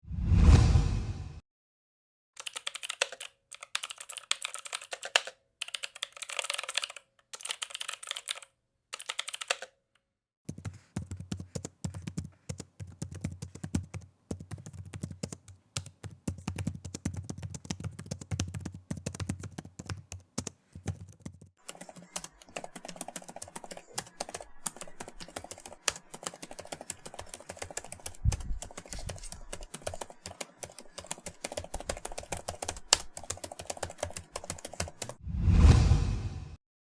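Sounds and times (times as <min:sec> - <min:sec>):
typing on a computer keyboard: 0:02.4 - 0:09.8, 0:10.5 - 0:35.2.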